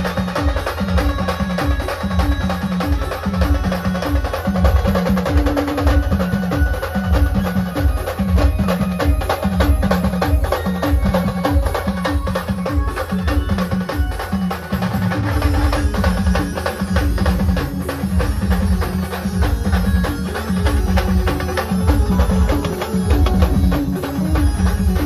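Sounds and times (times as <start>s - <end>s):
driving drumming: 0.0s - 25.0s.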